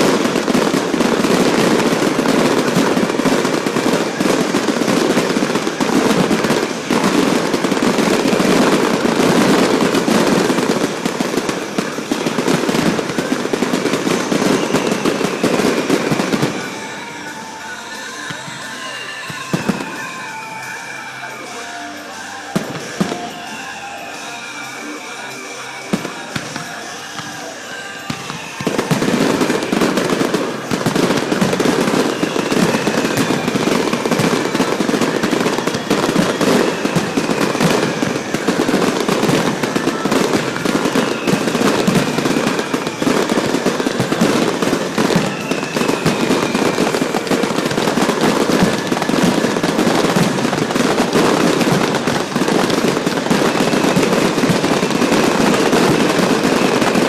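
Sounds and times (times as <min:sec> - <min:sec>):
fireworks bangs and crackling: 0:00.0 - 0:57.0
fireworks whistling: 0:00.0 - 0:57.0.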